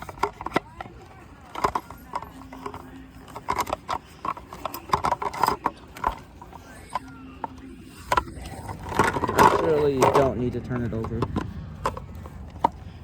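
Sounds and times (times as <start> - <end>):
hard plastic parts knocking and clicking: 0.0 - 13.0.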